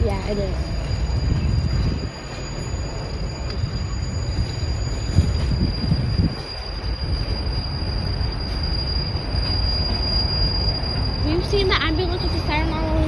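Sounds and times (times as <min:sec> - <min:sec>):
thin high whine: 0:00.0 - 0:13.0
train wheels rumbling on rail: 0:00.0 - 0:13.0.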